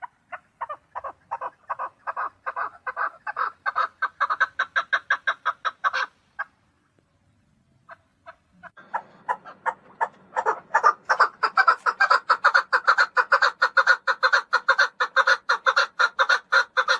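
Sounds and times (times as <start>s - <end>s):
partridge clucking calls: 0.0s - 6.6s, 7.7s - 16.9s.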